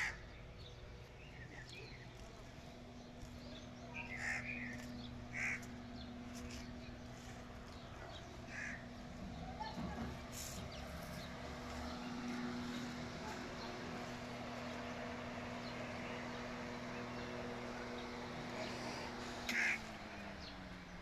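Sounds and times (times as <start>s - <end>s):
low mechanical hum: 0.0s - 21.0s
outdoor background noise: 0.0s - 21.0s.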